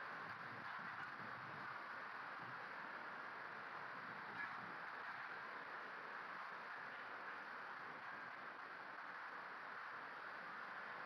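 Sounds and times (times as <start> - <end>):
faint room tone hiss: 0.0 - 11.0.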